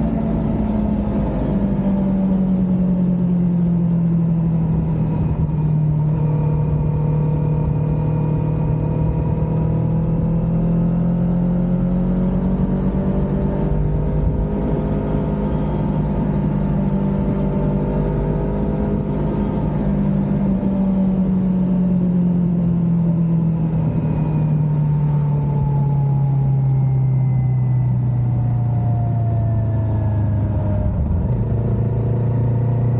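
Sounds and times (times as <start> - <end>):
motorcycle engine cruising: 0.0 - 32.9
wind and road noise: 0.0 - 32.9.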